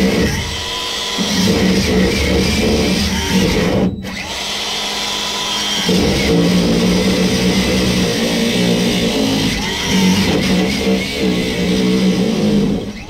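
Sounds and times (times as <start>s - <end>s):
grinder cutting steel pipe: 0.0s - 13.0s.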